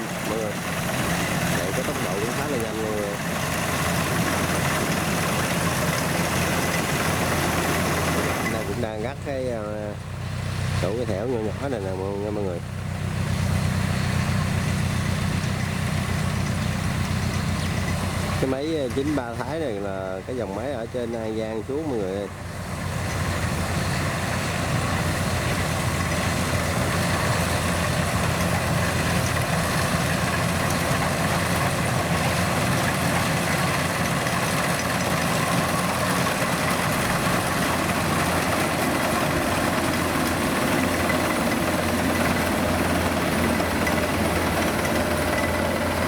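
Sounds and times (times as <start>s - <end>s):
diesel engine running: 0.0s - 46.0s
harvester machinery noise: 0.0s - 46.0s.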